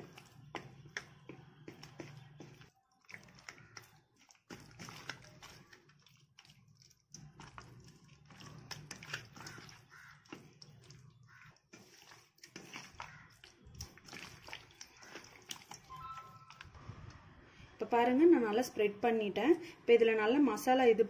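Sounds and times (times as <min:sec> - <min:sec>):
wet squelching of fish in bowl: 0:00.0 - 0:17.3.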